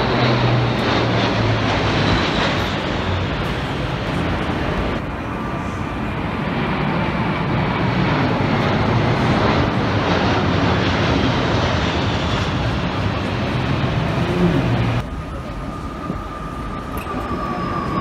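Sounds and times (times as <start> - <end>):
aircraft engine roar overhead: 0.0 - 18.0.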